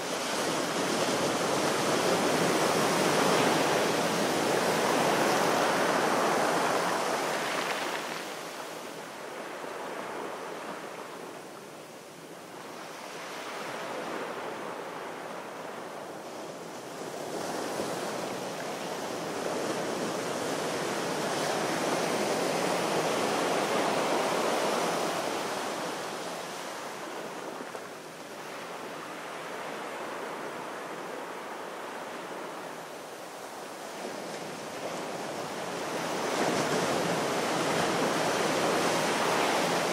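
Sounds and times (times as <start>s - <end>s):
sea waves washing onto shore: 0.0s - 11.5s, 12.9s - 39.9s.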